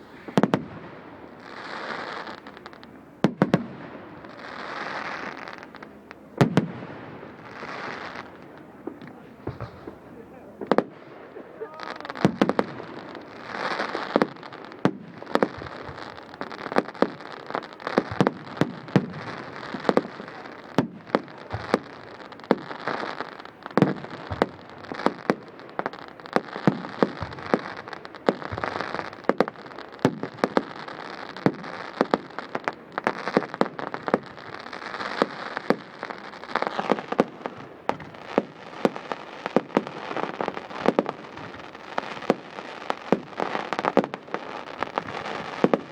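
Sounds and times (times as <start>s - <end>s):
crackling hiss: 0.0s - 45.9s
fireworks bangs and cracks: 0.0s - 45.9s.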